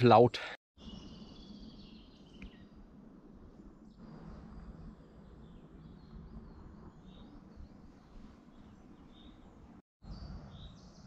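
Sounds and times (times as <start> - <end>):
birds chirping: 0.0 - 3.0, 3.8 - 11.0.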